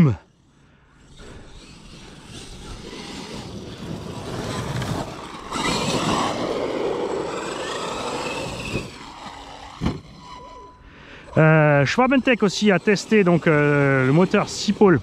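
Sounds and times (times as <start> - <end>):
rc truck tyre and ground noise: 0.0 - 15.0
faint electric motor whine: 0.2 - 15.0.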